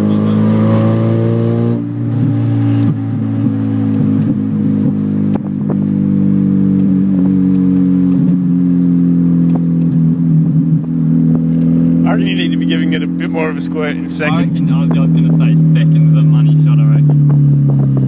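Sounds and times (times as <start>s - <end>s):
car engine revving without mufflers: 0.0s - 18.0s.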